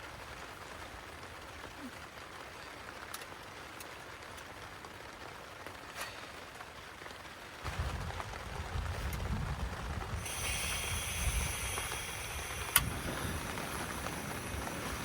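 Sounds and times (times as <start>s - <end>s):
heavy rain on a tent: 0.0s - 15.0s.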